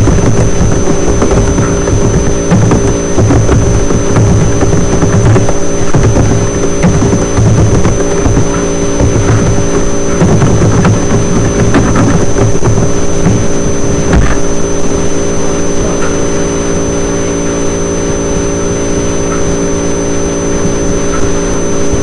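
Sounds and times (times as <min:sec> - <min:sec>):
electrical hum: 0:00.0 - 0:22.0
thin high whine: 0:00.0 - 0:22.0.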